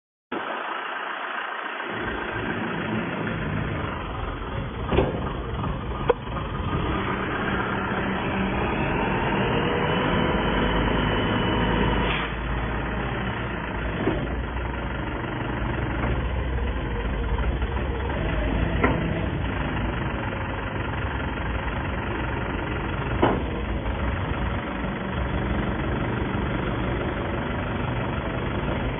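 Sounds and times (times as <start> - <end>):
diesel engine running: 0.3 - 28.9.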